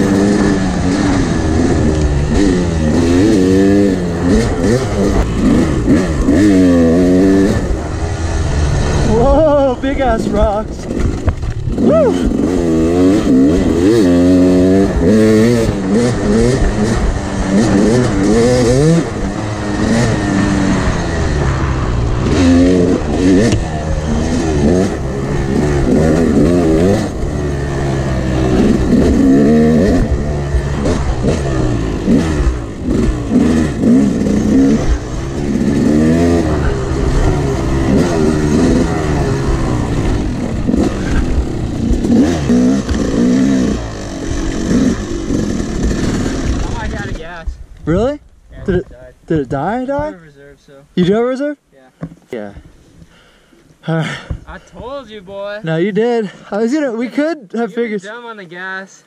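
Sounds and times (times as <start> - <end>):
dirt bike engine revving: 0.0 - 47.3.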